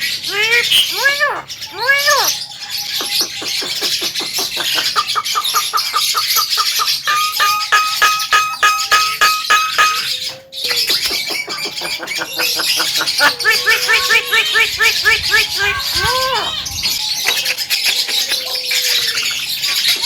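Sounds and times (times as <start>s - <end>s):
bird singing: 0.0s - 20.0s.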